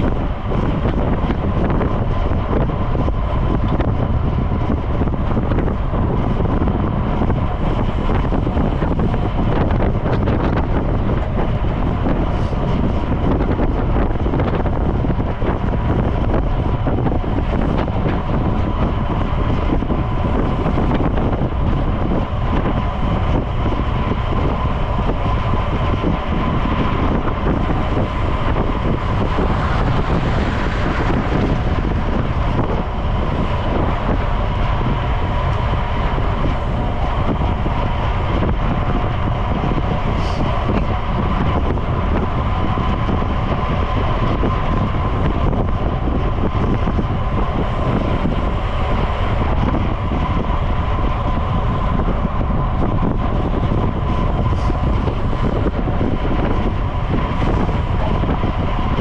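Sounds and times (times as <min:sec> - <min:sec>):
road and tyre noise: 0:00.0 - 0:59.0
thin steady whine: 0:00.0 - 0:59.0
wind buffeting microphone: 0:00.0 - 0:59.0.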